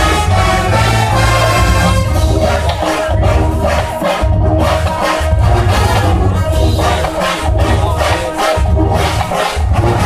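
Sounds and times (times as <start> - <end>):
marching band playing funk: 0.0 - 10.0.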